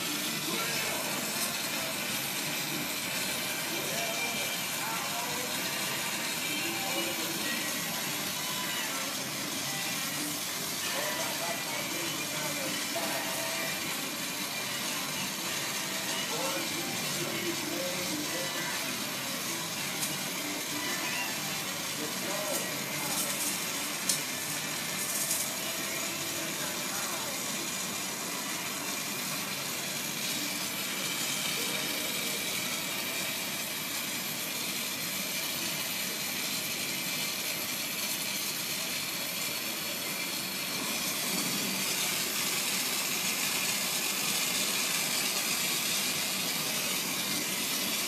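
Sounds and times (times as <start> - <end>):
torch flame hissing: 0.0 - 48.0.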